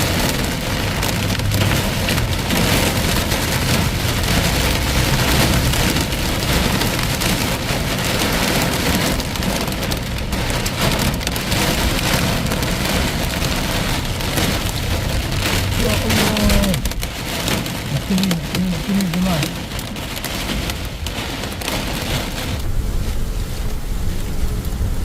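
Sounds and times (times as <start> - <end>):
torrential rain on hard surfaces: 0.0 - 25.0.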